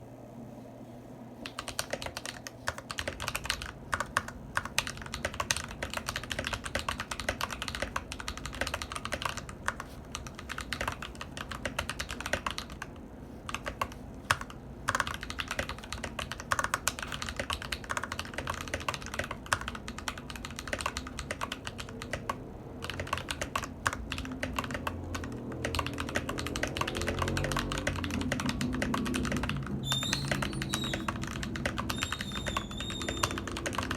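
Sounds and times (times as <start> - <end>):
fast mechanical keyboard typing: 1.4 - 33.9.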